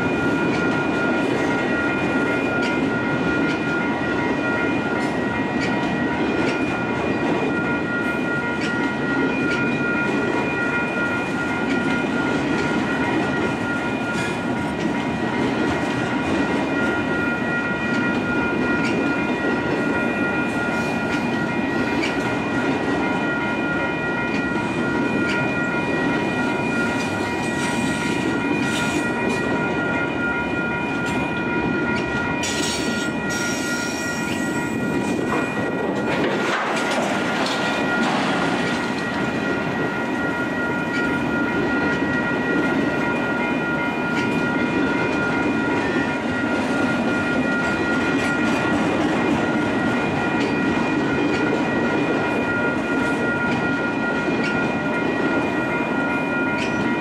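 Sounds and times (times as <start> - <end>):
freight train wheels clattering: 0.0 - 57.0
level crossing warning bell: 0.0 - 57.0.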